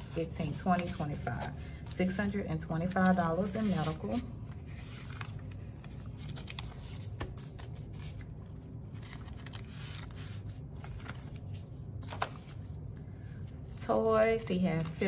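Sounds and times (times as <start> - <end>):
paper and plastic rustling: 0.0 - 12.8
low steady hum: 0.0 - 15.0.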